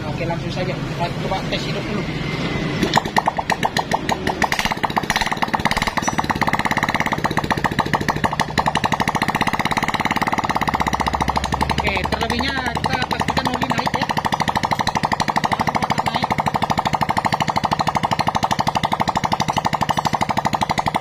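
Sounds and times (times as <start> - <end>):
motorcycle engine popping: 2.7 - 21.0.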